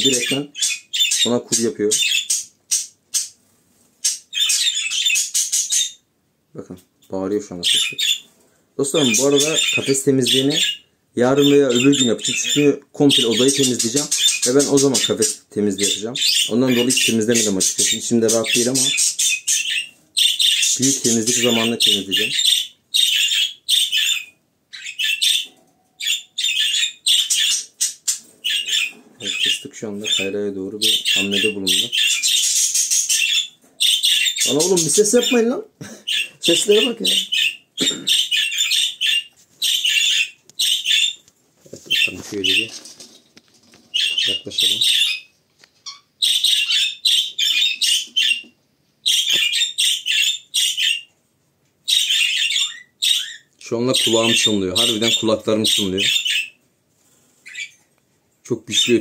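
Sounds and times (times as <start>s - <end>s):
budgerigars chirping harshly: 0.0s - 3.4s, 4.0s - 6.1s, 7.5s - 41.2s, 41.8s - 43.2s, 43.8s - 51.2s, 51.8s - 56.6s, 57.4s - 57.9s, 58.6s - 59.0s.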